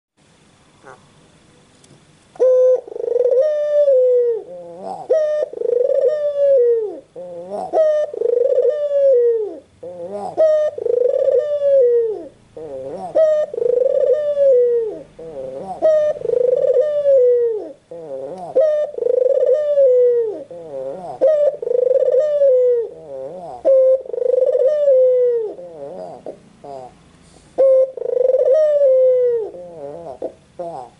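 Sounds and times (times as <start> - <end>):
dove cooing: 2.4 - 30.9.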